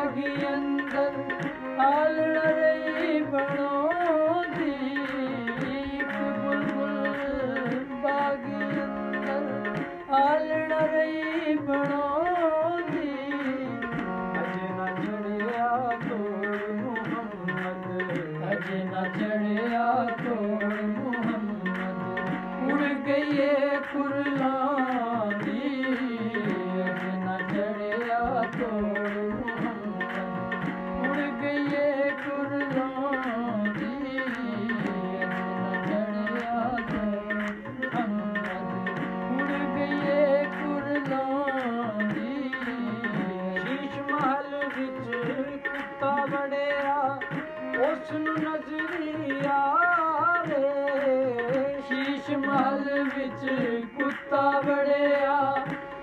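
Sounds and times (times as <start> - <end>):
harmonium playing: 0.0 - 56.0
tabla rhythm: 0.0 - 56.0.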